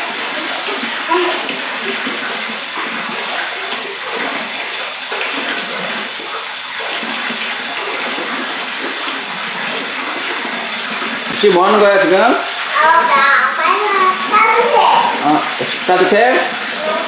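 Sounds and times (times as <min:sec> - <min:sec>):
water pouring from a spout: 0:00.0 - 0:17.0
water splashing: 0:00.0 - 0:17.0.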